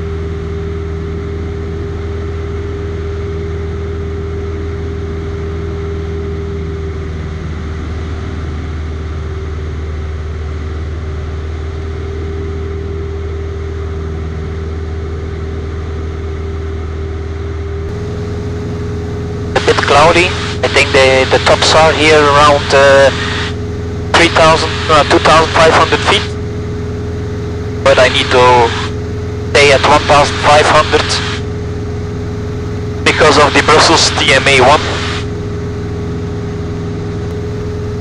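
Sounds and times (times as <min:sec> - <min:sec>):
aircraft engine and propeller droning: 0:00.0 - 0:38.0.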